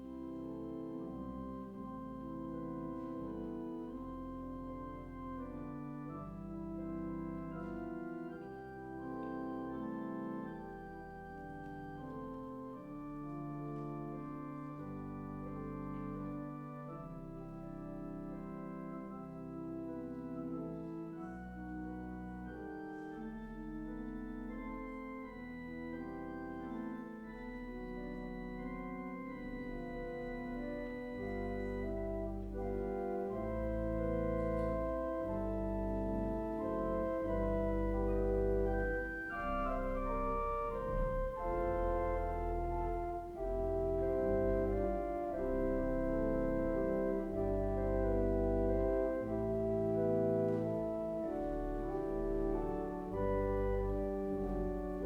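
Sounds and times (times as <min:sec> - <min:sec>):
organ playing held chords: 0:00.0 - 0:55.0.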